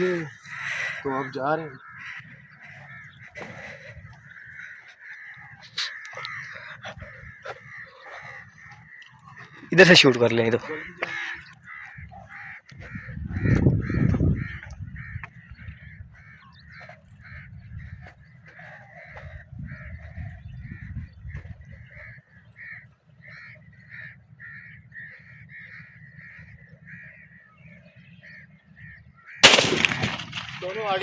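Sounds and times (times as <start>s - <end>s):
birds calling: 0.0s - 31.0s.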